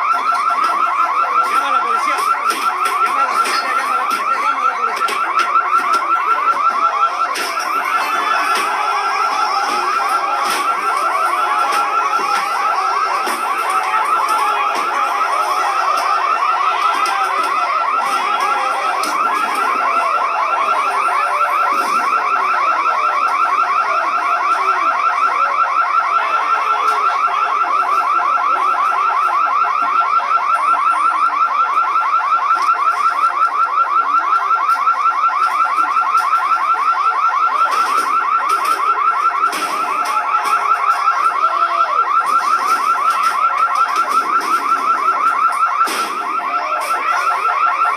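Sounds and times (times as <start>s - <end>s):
electronic alarm beeping: 0.0s - 47.9s
faint voices: 0.0s - 47.9s.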